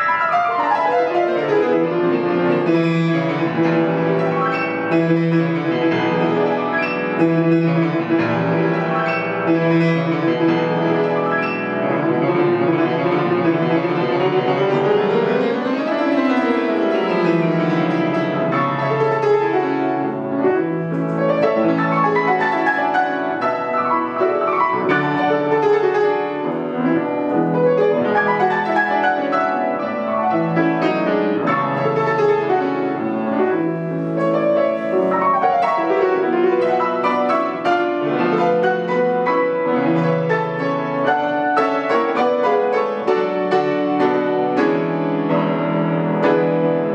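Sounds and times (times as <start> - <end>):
solo classical piano: 0.0 - 46.9.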